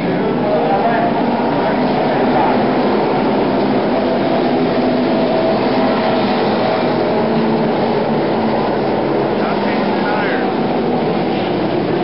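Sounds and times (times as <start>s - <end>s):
stock car engines droning: 0.0s - 12.0s.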